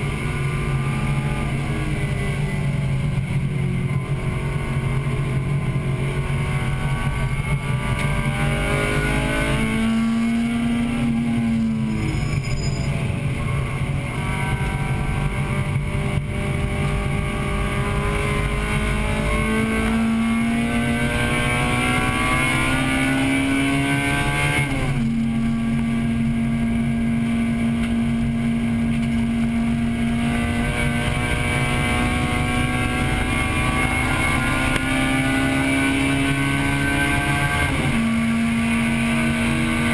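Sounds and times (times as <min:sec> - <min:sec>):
car engine under racing load: 0:00.0 - 0:39.9.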